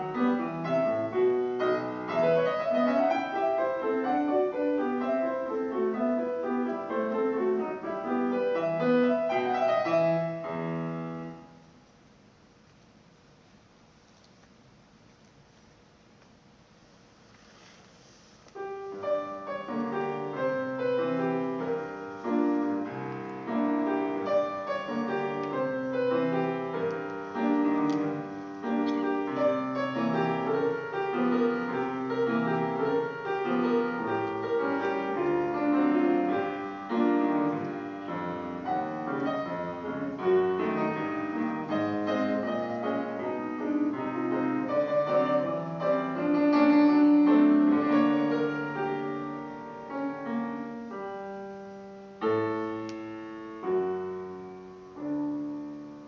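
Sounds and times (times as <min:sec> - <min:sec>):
grand piano playing quick notes: 0:00.0 - 0:11.7, 0:18.5 - 0:56.0.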